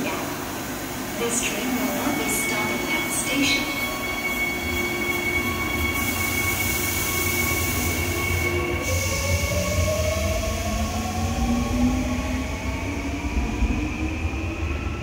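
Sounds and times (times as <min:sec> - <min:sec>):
electric train whine: 0:00.0 - 0:15.0
rising whine: 0:01.9 - 0:15.0.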